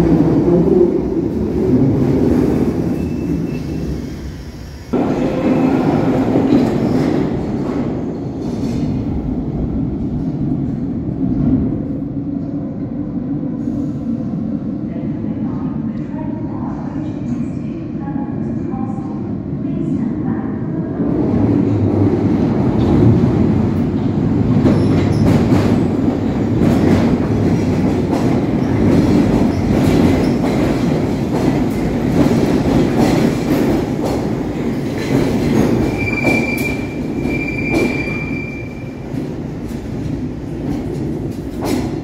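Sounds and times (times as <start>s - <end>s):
heavy train wheel rumble: 0.0s - 42.0s.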